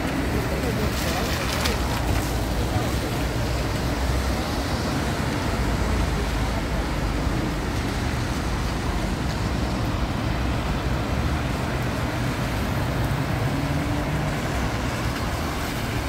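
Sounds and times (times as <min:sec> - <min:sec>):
bus engine hum: 0:00.0 - 0:16.0
tyres hissing on wet road: 0:00.0 - 0:16.0.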